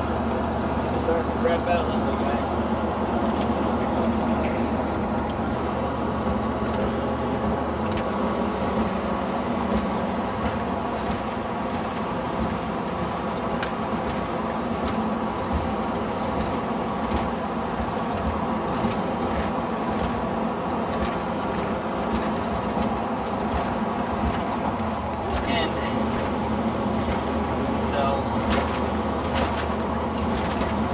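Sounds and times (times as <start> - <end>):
vehicle engine and road noise: 0.0 - 30.9.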